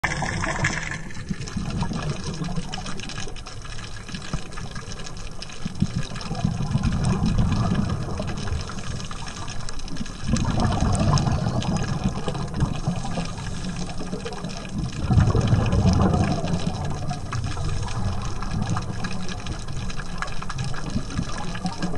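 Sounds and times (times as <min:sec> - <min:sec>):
bubbles rumbling underwater: 0:00.0 - 0:21.9
crackling hiss: 0:00.1 - 0:21.9.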